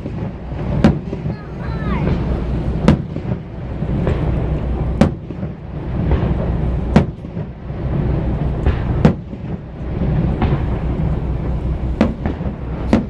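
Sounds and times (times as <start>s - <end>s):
fireworks booming: 0.0s - 13.0s
low rumble: 0.0s - 13.0s.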